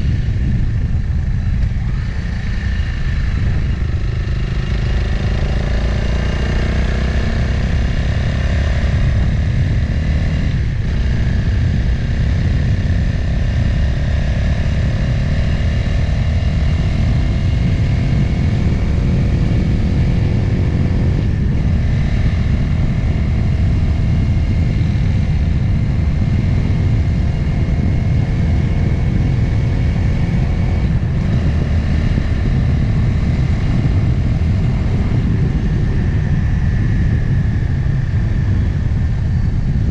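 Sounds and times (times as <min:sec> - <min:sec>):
low rumble: 0:00.0 - 0:39.9
motorcycle engine running: 0:00.0 - 0:39.9.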